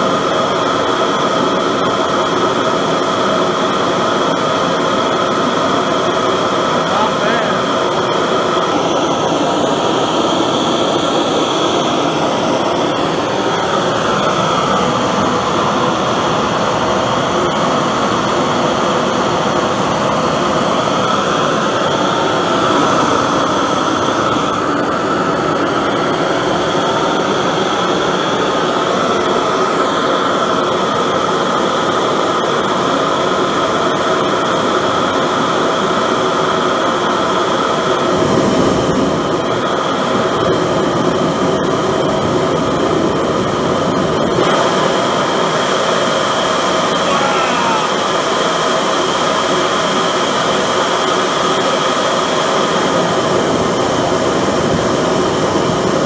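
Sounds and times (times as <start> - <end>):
forge burner roaring: 0.0 - 56.0.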